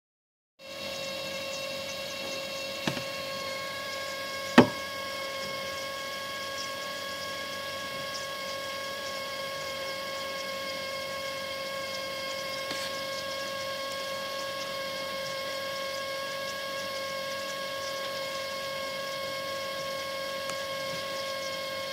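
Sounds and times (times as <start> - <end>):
fridge-freezer whining hum: 0.6 - 21.9.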